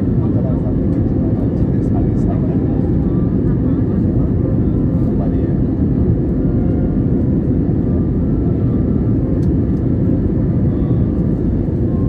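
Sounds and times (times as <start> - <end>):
jet engines and rushing air drone: 0.0 - 12.0.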